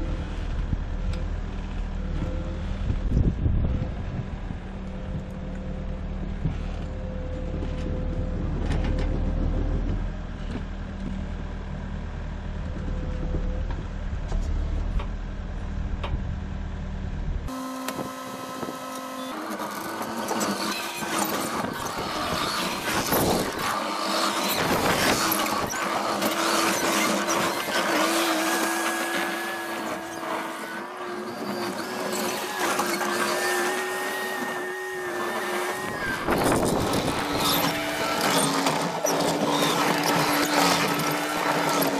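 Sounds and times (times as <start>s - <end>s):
skid steer whine and clatter: 0.0s - 41.9s.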